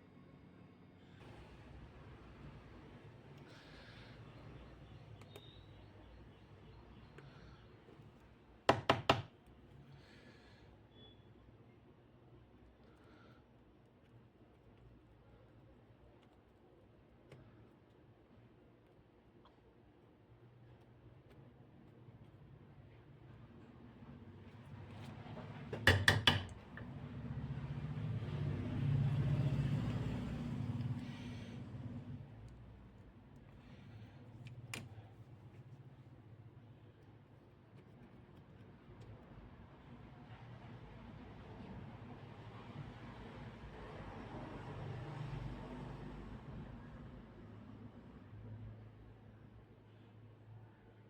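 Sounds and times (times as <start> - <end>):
faint steady hum: 0.0 - 42.6.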